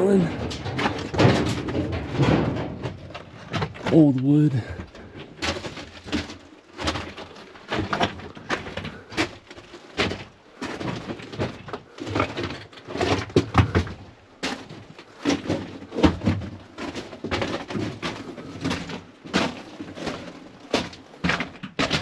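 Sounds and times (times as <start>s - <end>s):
footsteps crunching on loose rock: 0.0s - 22.0s.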